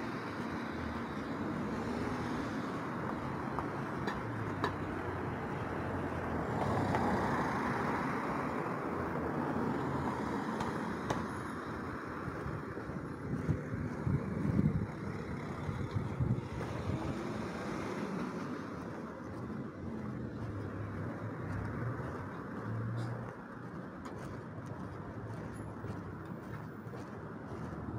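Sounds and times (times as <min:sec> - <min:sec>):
cars driving past: 0:00.0 - 0:27.9.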